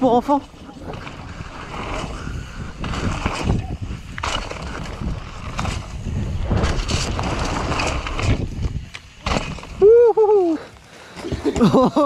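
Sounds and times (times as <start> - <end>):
bike rattling and knocking: 0.0 - 12.0
bike tyres on dirt: 0.0 - 12.0.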